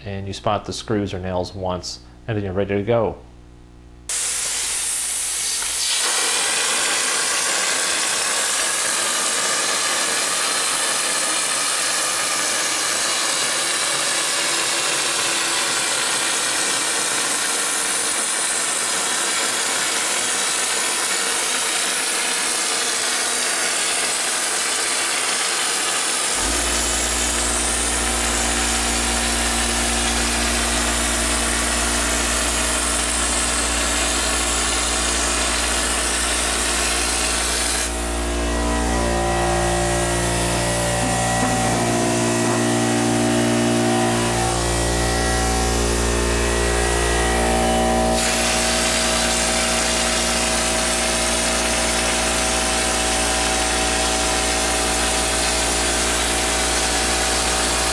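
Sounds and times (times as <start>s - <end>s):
air compressor motor hum: 3.6s - 57.9s
spray gun air hissing: 4.1s - 57.9s.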